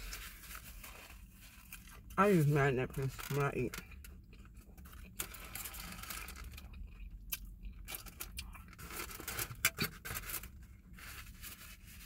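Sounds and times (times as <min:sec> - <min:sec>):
paper and foil wrapping crinkling: 0:00.0 - 0:03.8, 0:04.8 - 0:06.8, 0:07.9 - 0:12.0.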